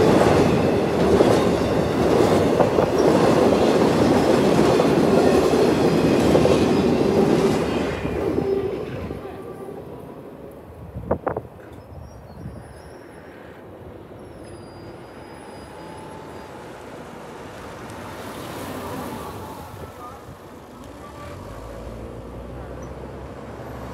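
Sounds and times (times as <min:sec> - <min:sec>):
road vehicle noise: 0:00.0 - 0:23.9.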